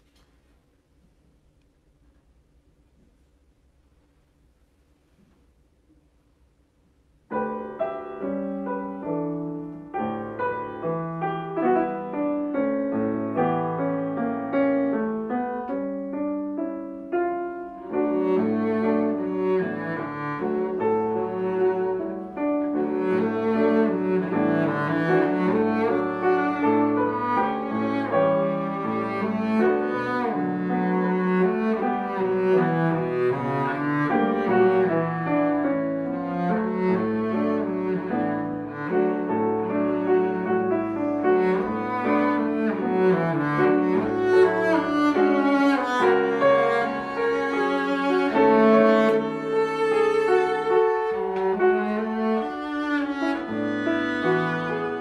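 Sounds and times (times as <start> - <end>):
grand piano: 0.0 - 55.0
bowed cello: 7.3 - 55.0.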